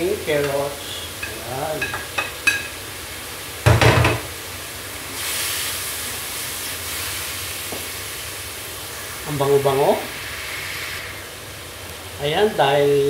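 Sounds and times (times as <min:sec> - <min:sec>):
carrots sizzling in oil: 0:00.0 - 0:13.0.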